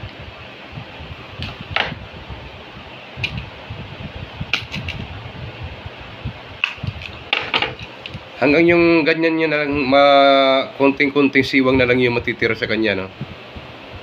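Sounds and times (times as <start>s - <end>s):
fan whirring: 0.0s - 14.0s.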